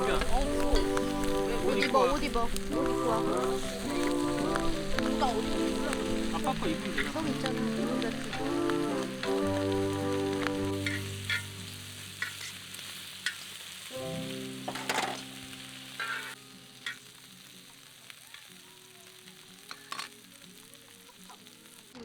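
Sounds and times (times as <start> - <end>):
utensils clicking on pan: 0.0 - 13.9, 14.6 - 18.6, 19.3 - 20.4
food sizzling in a pan: 0.0 - 22.0
quiet background music: 0.0 - 22.0.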